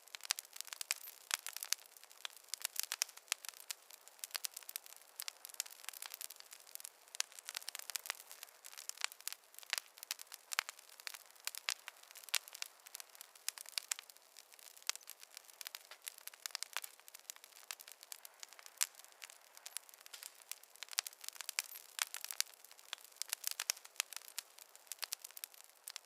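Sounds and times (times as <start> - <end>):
faint hiss: 0.0 - 26.0
wood fire crackling: 0.0 - 26.0.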